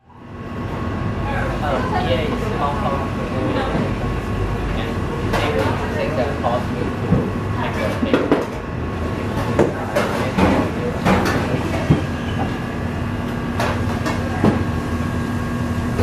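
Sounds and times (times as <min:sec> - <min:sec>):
rumbling room noise: 0:00.0 - 0:16.0.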